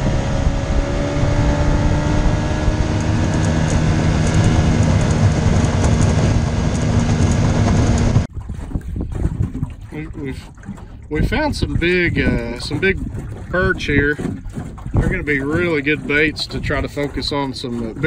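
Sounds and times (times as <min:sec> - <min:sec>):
outboard motor running: 0:00.0 - 0:18.0
wind and water rushing: 0:00.0 - 0:18.0.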